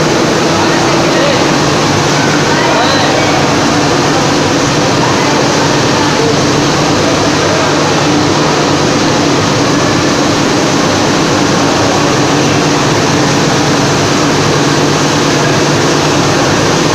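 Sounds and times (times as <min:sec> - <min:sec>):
motor hum: 0:00.0 - 0:16.9
rushing blower and roller noise: 0:00.0 - 0:16.9.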